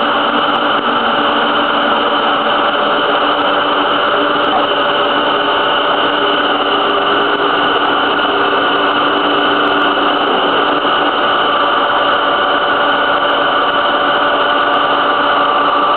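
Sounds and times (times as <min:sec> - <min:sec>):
race car engine idling: 0:00.0 - 0:15.9.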